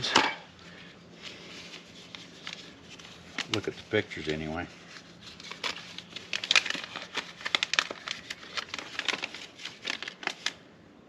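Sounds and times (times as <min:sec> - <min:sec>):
paper rustling and crinkling: 0:01.2 - 0:10.6.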